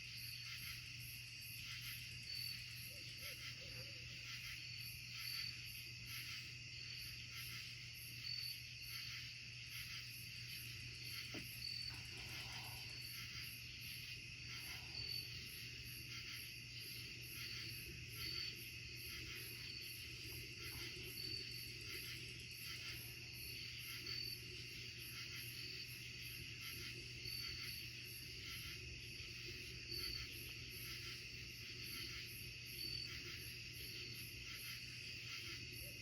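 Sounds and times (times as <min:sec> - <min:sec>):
crickets and insects trilling: 0:00.0 - 0:36.0.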